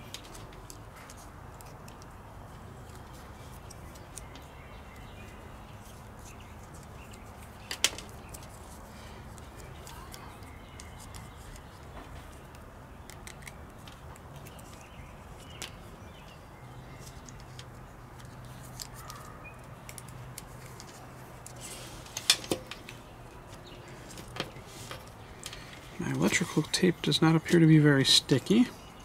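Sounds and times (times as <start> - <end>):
handling noises with tape: 0.0 - 29.0.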